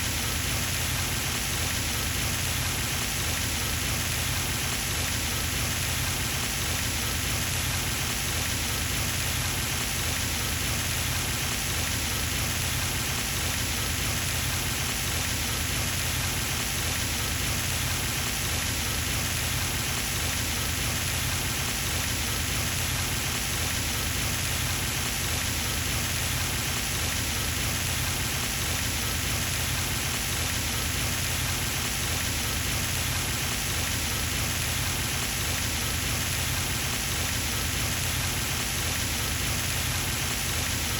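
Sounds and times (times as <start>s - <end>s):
pond fountain splashing: 0.2s - 40.9s.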